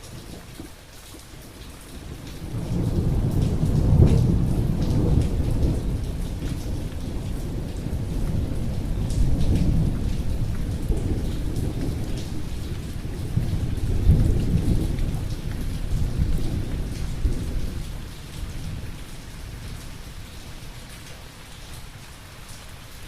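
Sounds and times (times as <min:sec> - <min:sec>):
steady rain: 0:00.0 - 0:23.0
thunder rumbling: 0:01.9 - 0:20.8.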